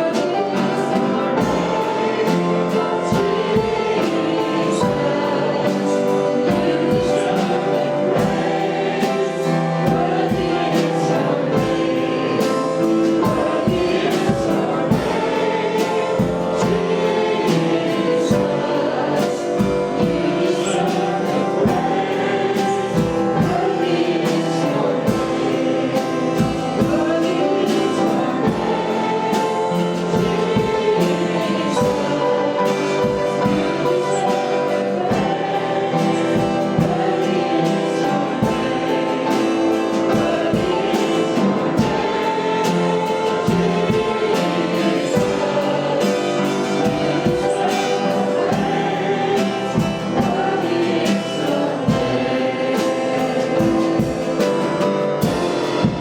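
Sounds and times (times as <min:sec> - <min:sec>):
instrumental accompaniment: 0:00.0 - 0:56.0
voices singing together: 0:00.0 - 0:56.0.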